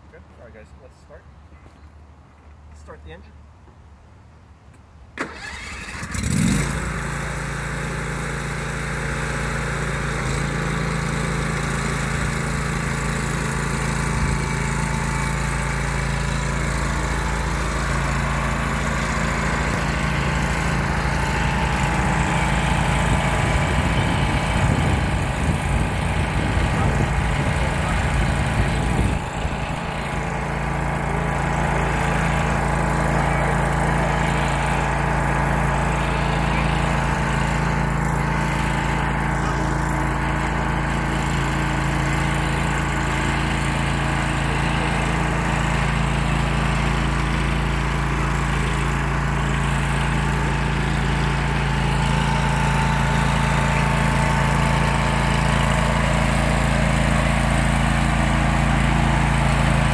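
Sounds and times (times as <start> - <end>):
garden tractor engine running: 5.2 - 59.9.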